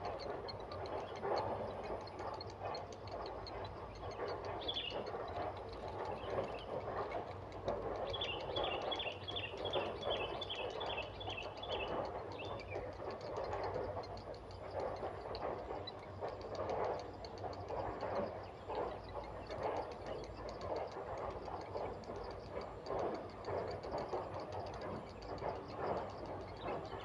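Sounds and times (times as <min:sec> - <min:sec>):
heron chicks clattering calls: 0:00.0 - 0:27.0.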